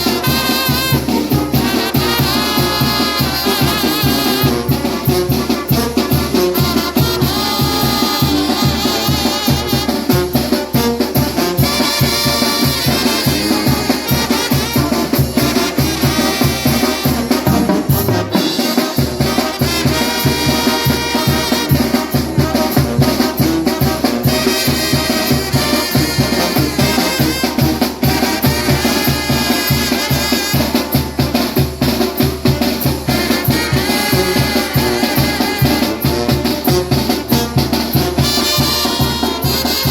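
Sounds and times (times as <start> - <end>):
drums and percussion: 0.0 - 39.9
trumpet melody: 0.0 - 39.9.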